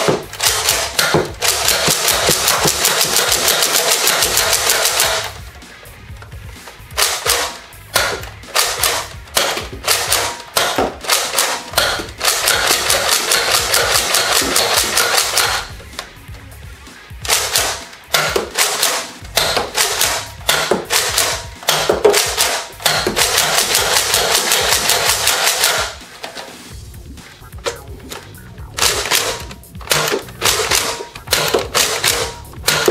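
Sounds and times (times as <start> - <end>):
music with fast percussive beat: 0.0 - 32.9.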